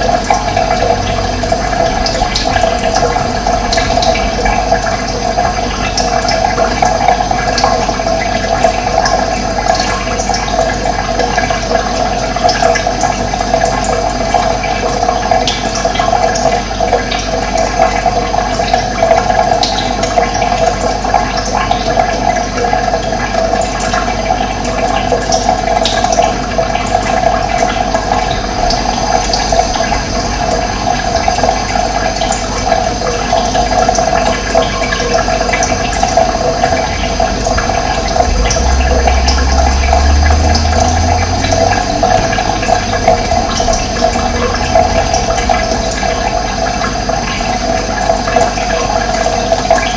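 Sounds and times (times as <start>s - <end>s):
running water: 0.0s - 49.9s.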